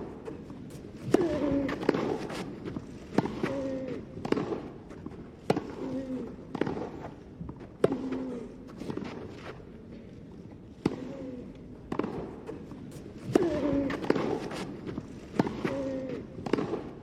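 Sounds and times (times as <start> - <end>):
tennis ball hitting racket: 0.0 - 9.6, 10.8 - 11.2, 11.9 - 17.0.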